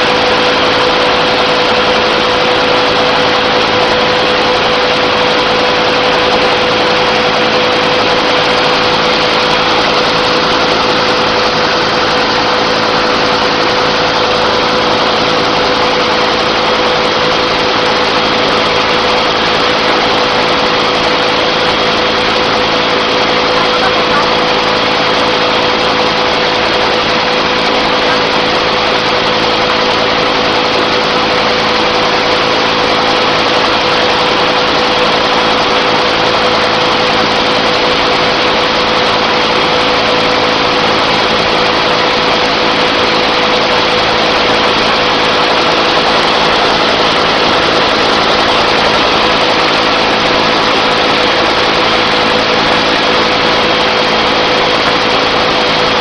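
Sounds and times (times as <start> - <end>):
constant whine: 0.0 - 56.0
helicopter engine and rotor drone: 0.0 - 56.0.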